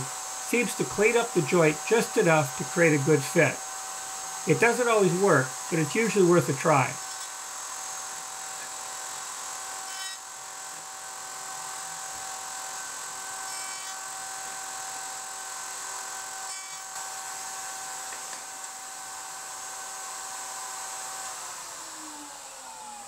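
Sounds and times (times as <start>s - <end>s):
router whining: 0.0s - 23.0s.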